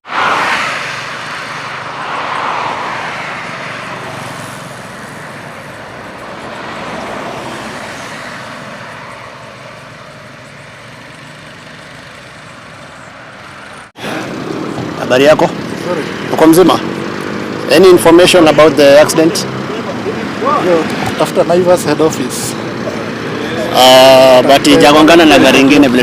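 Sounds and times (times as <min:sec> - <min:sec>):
highway traffic passing: 0:00.0 - 0:26.0.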